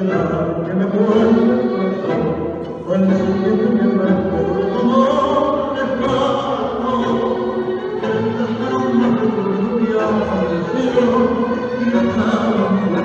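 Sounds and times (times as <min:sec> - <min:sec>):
tango music: 0:00.0 - 0:13.0.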